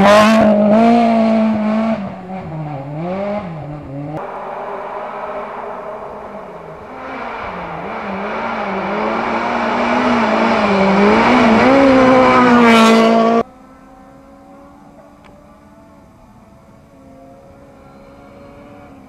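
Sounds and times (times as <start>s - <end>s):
rally car engine at full throttle: 0.0s - 19.0s
faint distant engine: 1.8s - 19.0s.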